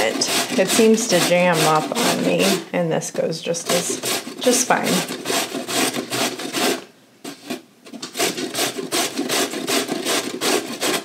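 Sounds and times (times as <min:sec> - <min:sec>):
grater rasping strokes: 0:00.0 - 0:02.6, 0:03.5 - 0:11.0.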